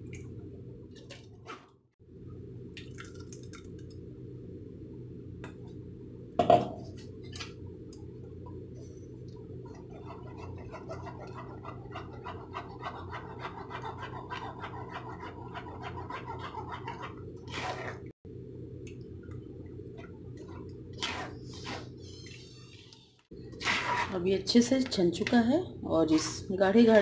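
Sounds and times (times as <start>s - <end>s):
steady low hum: 3.4s - 27.0s.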